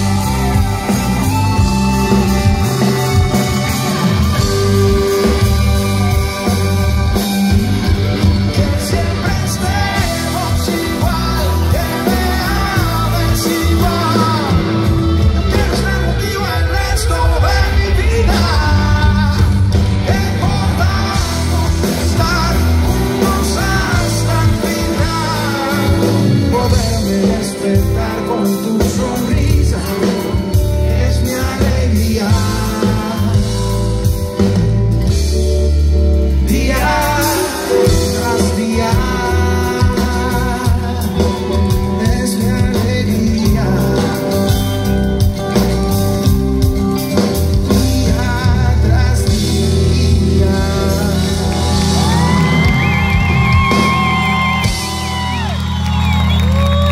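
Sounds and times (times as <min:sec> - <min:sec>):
man singing lead vocal: 0:00.0 - 0:34.6, 0:36.1 - 0:55.4
live pop band playing: 0:00.0 - 0:56.9.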